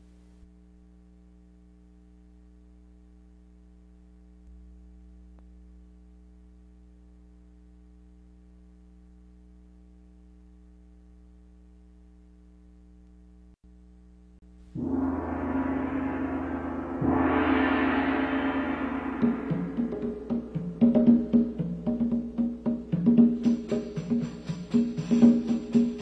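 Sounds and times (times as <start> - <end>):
mains hum: 0.0 - 26.0.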